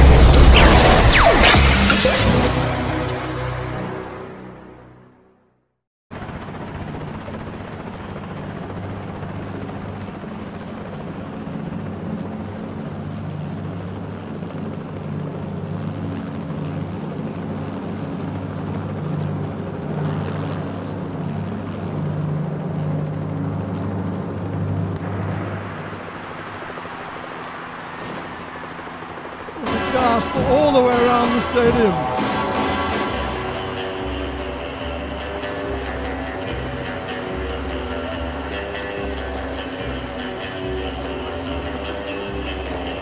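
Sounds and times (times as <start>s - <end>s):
helicopter rotor drone: 0.0s - 4.2s, 6.1s - 43.0s.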